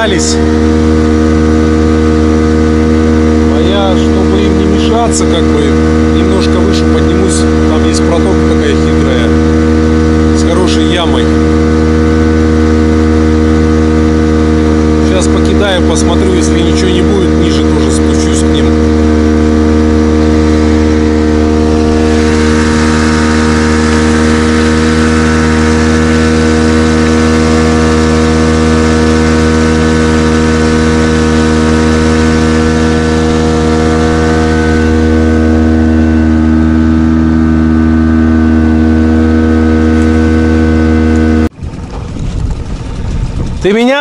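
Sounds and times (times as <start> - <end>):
outboard motor running: 0.0 - 44.0.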